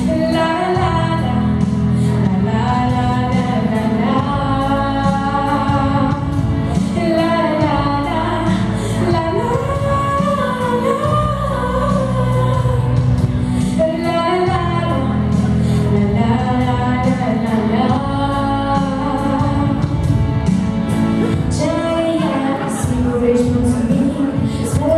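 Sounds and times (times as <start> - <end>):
girl singing into microphone: 0.0 - 20.2, 21.3 - 24.9
backing music with beat and bass: 0.0 - 24.9.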